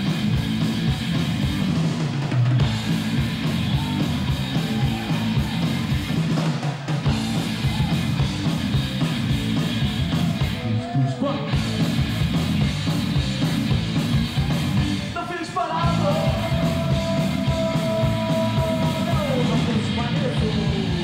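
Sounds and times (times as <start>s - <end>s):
rock band playing live: 0.0s - 21.0s.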